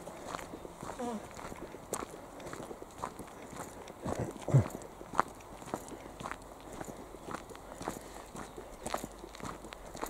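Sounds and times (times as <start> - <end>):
footsteps crunching on gravel: 0.0 - 10.0.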